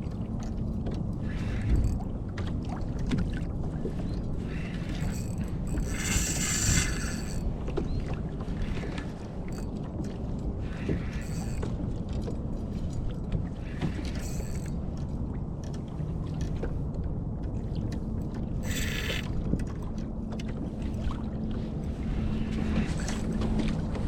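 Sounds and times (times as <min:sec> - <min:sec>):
water moving around kayak hull: 0:00.0 - 0:24.0.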